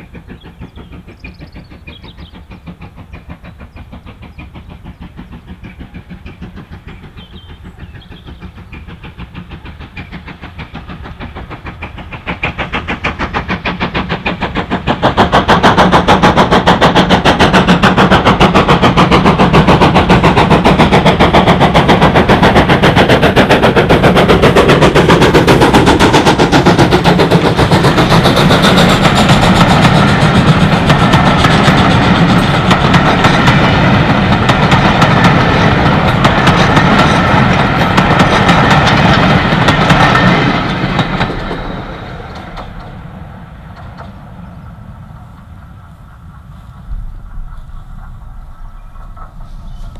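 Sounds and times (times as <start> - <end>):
steam locomotive exhaust beats: 0.0 - 49.9.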